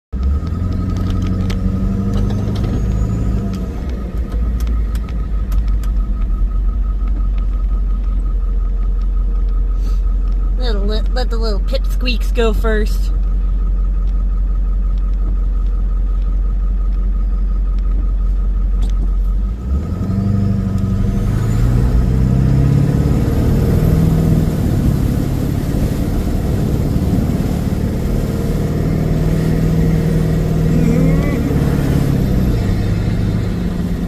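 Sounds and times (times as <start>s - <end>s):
road noise: 0.1s - 34.0s
vehicle engine rumbling: 0.1s - 34.0s.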